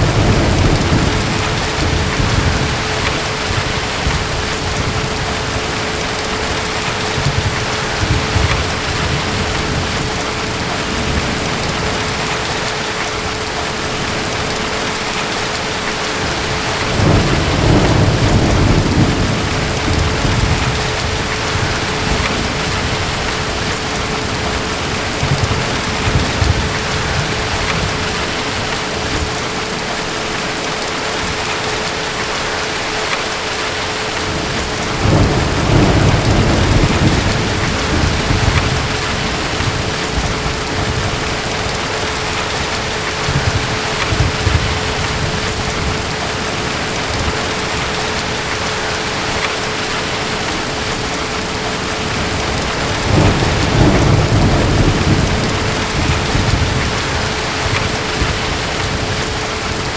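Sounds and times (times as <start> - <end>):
distant thunder rumbling: 0.0 - 31.4, 34.1 - 59.9
steady rain: 0.0 - 59.9.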